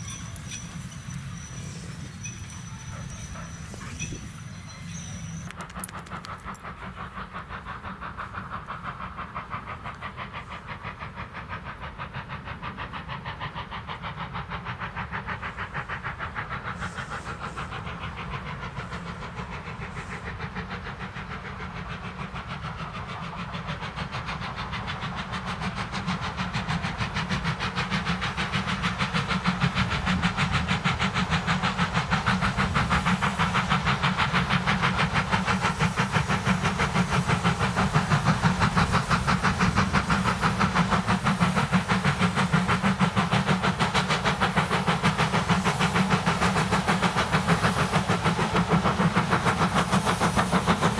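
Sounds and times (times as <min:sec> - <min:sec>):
steam locomotive exhaust beating: 0:00.0 - 0:50.9.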